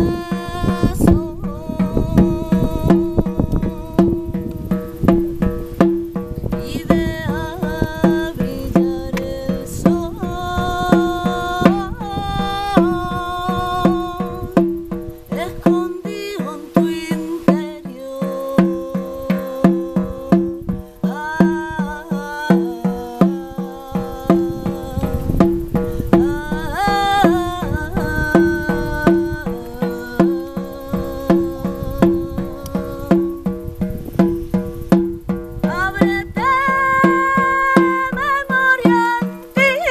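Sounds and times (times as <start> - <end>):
frame drum beating: 0.0 - 39.9
woman singing a slow chant: 0.0 - 39.9.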